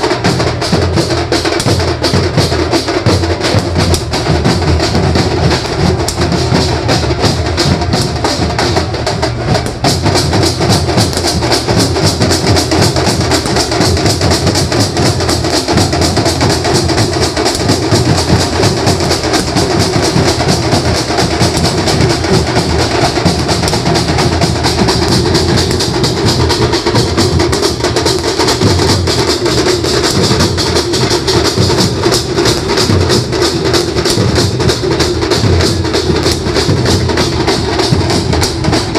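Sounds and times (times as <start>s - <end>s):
fast dense drumming: 0.0s - 38.9s.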